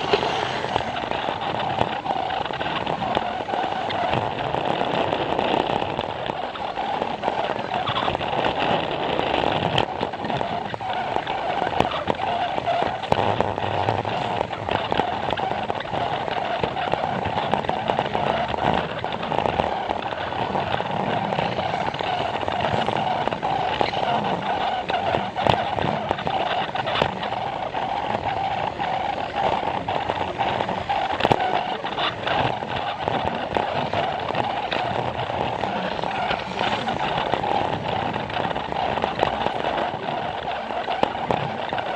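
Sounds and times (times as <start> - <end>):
toy train motor whirring: 0.0 - 41.9.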